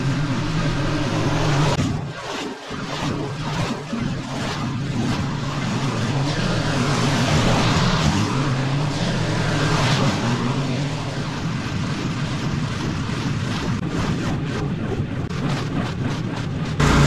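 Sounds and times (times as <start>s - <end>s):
mower engine running: 0.0s - 1.8s, 5.0s - 17.0s.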